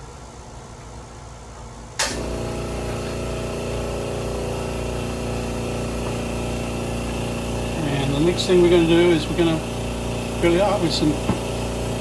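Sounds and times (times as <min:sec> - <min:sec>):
air compressor motor humming: 0:00.0 - 0:12.0.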